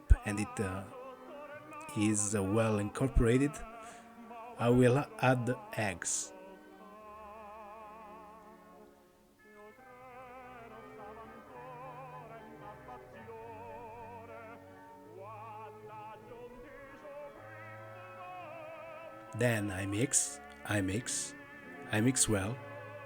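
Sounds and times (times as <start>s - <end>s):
man singing operatic song: 0.0s - 8.9s, 9.5s - 23.0s
light musical accompaniment: 0.0s - 23.0s.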